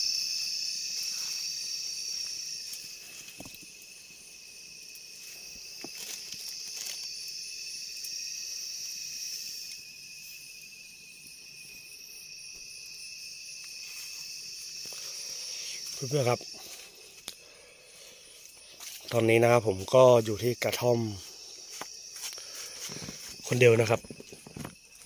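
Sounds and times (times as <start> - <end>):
insects chirring: 0.0 - 25.0
thin steady tone: 0.0 - 25.0.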